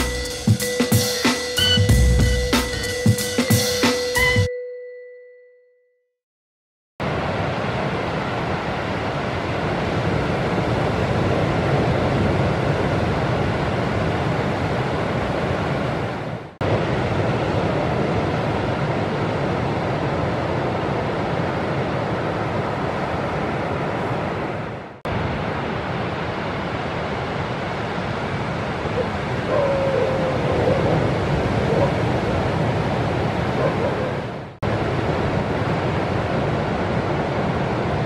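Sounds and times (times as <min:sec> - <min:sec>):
ocean surf breaking: 0:07.0 - 0:38.0
wind on microphone: 0:07.0 - 0:38.0.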